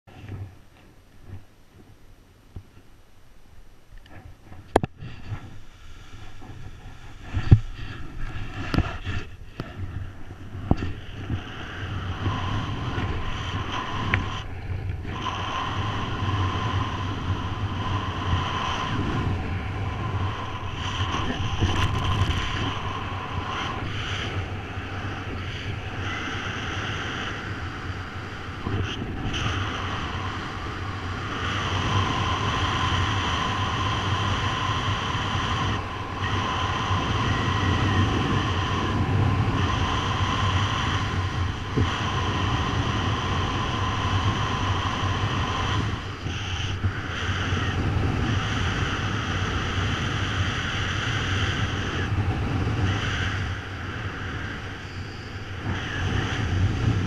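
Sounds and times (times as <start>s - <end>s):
wind buffeting microphone: 4.0s - 57.0s.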